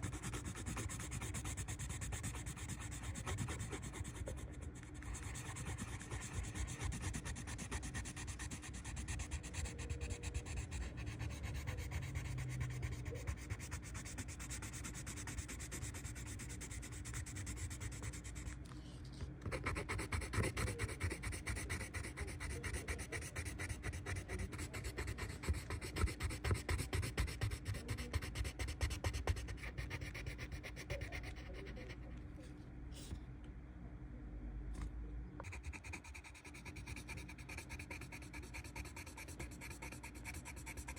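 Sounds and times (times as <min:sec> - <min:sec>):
pencil shading on paper: 0:00.0 - 0:18.6, 0:19.5 - 0:32.0, 0:35.4 - 0:40.9.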